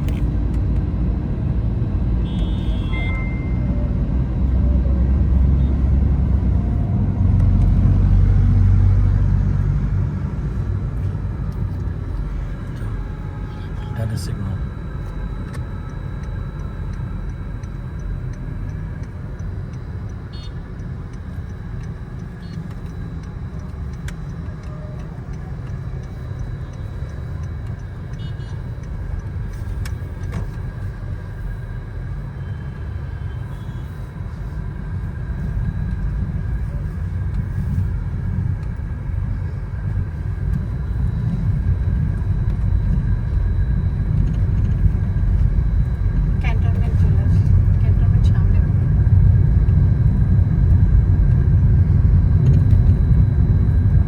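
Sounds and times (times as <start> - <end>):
car cabin road rumble: 0.0 - 54.0.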